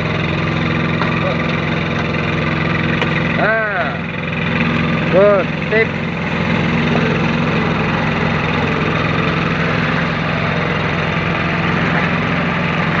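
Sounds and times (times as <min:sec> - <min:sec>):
machine engine running steadily: 0:00.0 - 0:13.0.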